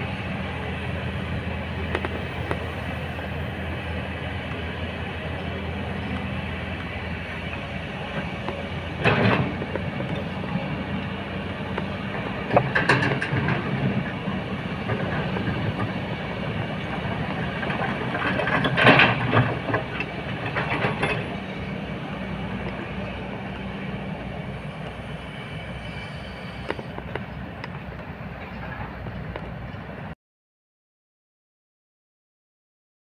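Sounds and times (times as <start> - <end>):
excavator diesel engine running: 0.0 - 30.1.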